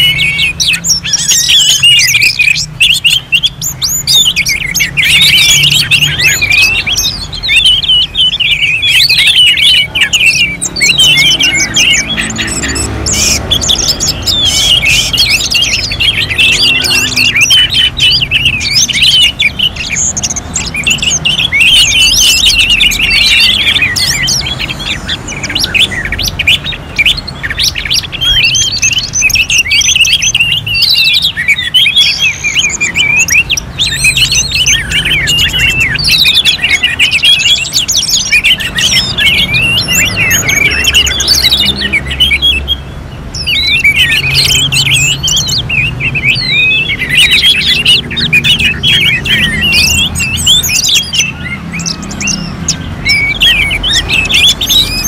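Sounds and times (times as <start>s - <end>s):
thrushes singing in chorus: 0.0s - 55.0s.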